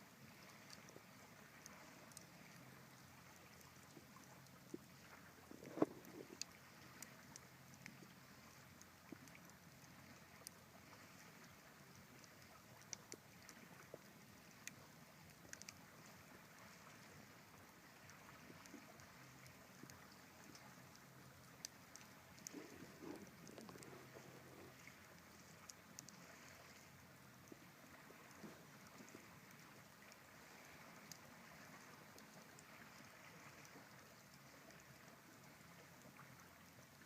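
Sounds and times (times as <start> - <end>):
faint campfire crackling: 0.0 - 37.0.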